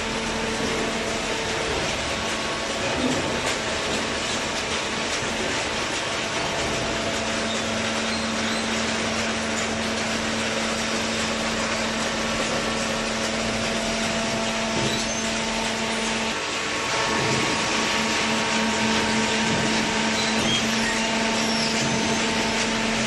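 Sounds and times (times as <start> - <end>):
shredding machinery running: 0.0 - 23.0.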